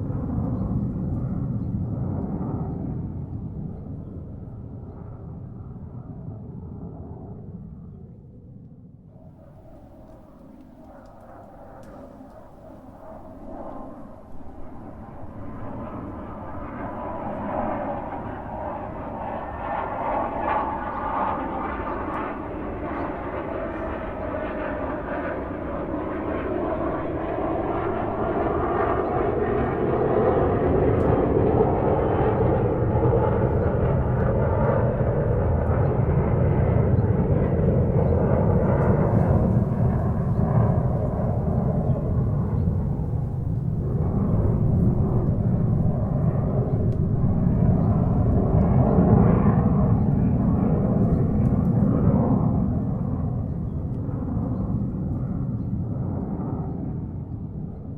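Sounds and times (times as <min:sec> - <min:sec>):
airplane engine and airflow: 0:00.0 - 0:57.9.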